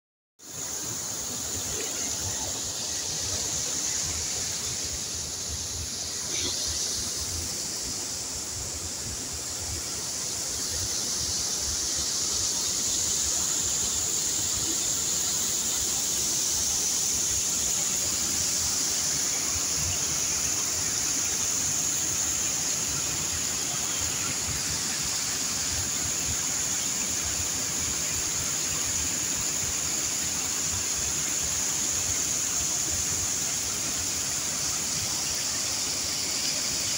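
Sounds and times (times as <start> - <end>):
water rushing over spillway: 0.4 - 36.9.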